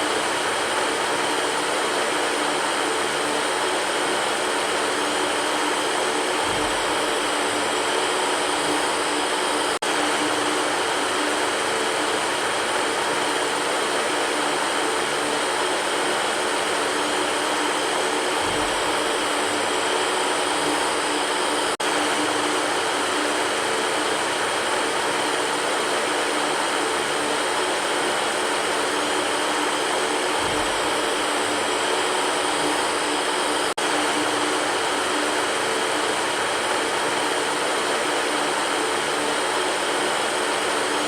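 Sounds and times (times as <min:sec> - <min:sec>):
electric fan running: 0:00.0 - 0:41.0.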